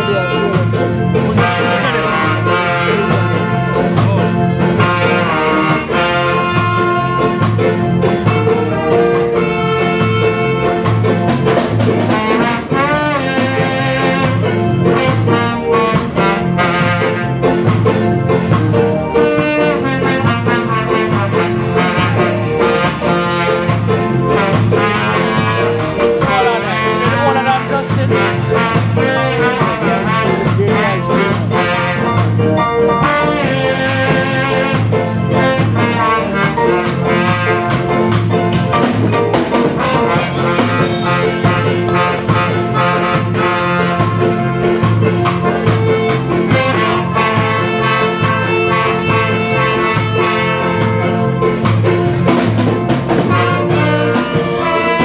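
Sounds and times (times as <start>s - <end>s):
bass: 0.0s - 55.0s
drums keeping a beat: 0.0s - 55.0s
electric guitars: 0.0s - 55.0s
horn section playing melody: 0.0s - 55.0s.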